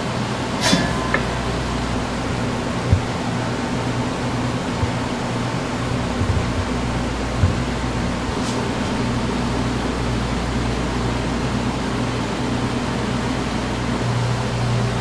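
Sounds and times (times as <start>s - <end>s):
machine whirring hum: 0.0s - 15.0s.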